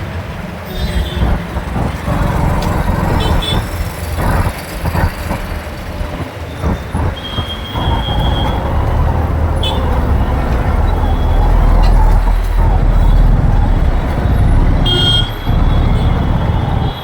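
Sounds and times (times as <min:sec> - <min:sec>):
road and traffic noise: 0:00.0 - 0:17.0
high steady tone: 0:00.7 - 0:17.0
wind rumble on microphone: 0:00.8 - 0:17.0.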